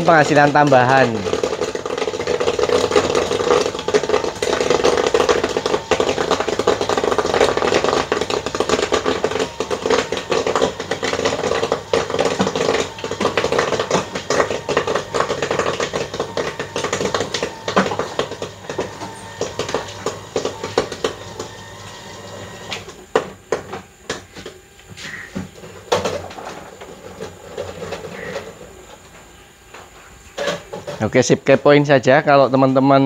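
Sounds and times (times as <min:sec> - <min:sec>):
popcorn popping: 0:00.0 - 0:31.2
steady hum: 0:00.0 - 0:33.0.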